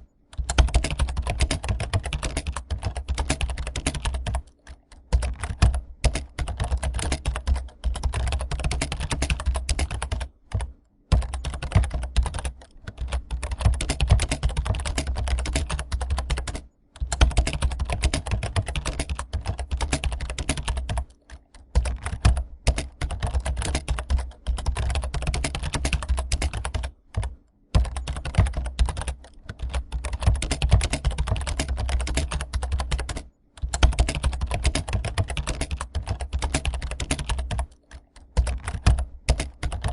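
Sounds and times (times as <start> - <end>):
fast keyboard typing: 0.3 - 39.9.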